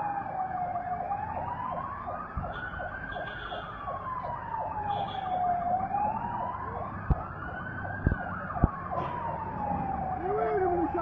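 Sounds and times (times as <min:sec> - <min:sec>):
emergency siren wailing: 0:00.0 - 0:11.0.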